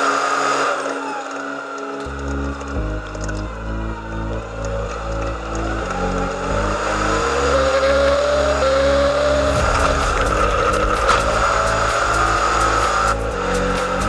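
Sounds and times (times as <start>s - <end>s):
background music: 0.0s - 14.0s
truck engine accelerating: 0.0s - 14.0s.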